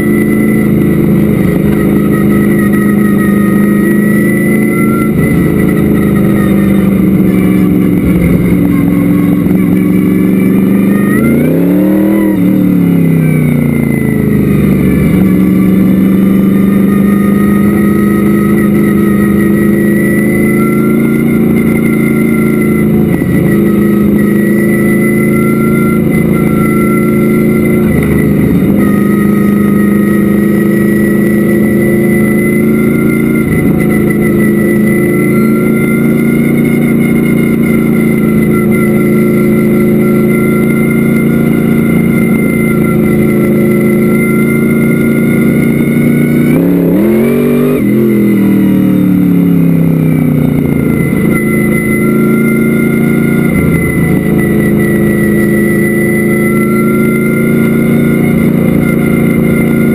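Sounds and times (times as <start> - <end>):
race car engine running loud: 0.0 - 59.9.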